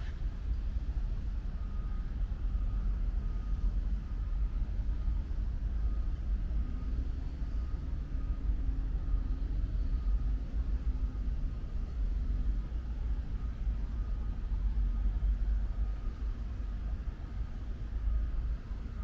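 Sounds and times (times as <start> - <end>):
faint steady whine: 0.0 - 19.0
low hum: 0.0 - 19.0
low outdoor rumble: 0.0 - 19.0.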